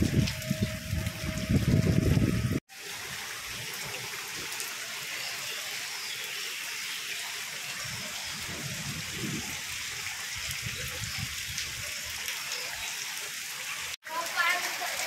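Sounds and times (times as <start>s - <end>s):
rain hissing on wet rooftop: 0.0s - 15.0s.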